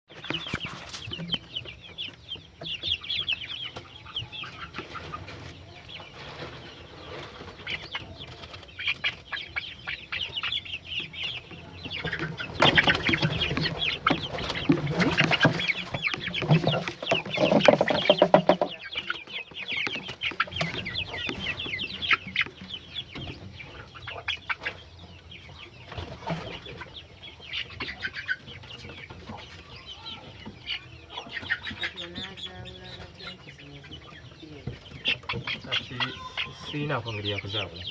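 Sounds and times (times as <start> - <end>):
chickens clucking and calling: 0.1 - 37.9.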